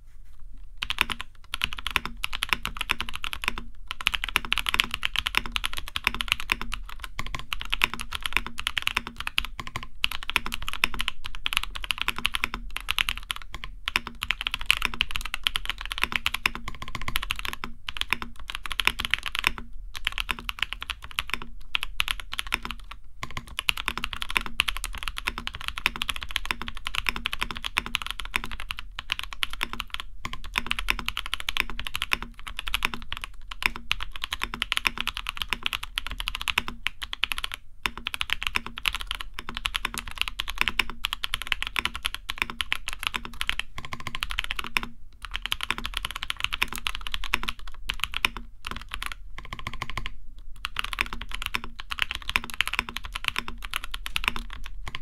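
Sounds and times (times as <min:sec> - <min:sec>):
fast mechanical keyboard typing: 0:00.8 - 0:55.0.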